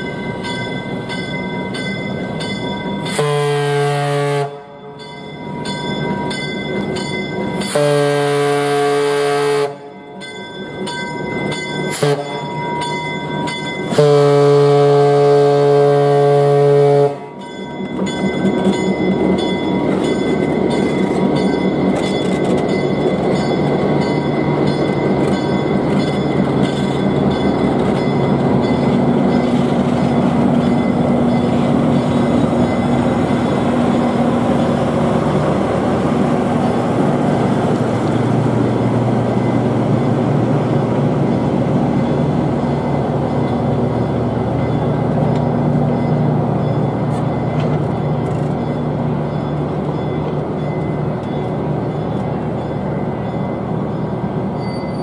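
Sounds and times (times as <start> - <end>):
diesel locomotive running: 0.0 - 55.0
passenger coaches rolling on rails: 0.0 - 55.0.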